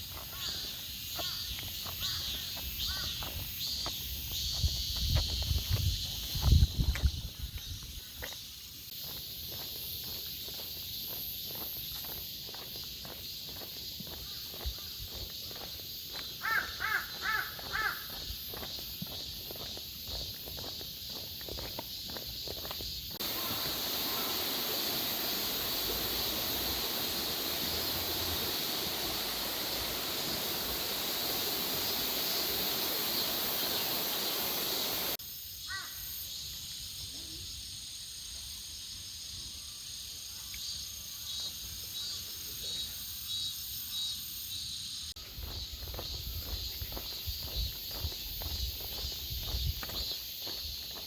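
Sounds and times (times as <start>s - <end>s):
cicada chorus: 0.0s - 51.0s
pulsing insect trills: 0.0s - 51.0s.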